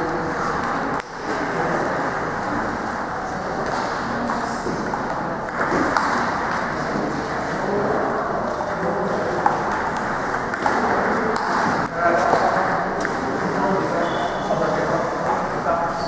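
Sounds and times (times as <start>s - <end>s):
table tennis balls clicking: 0.2s - 15.7s.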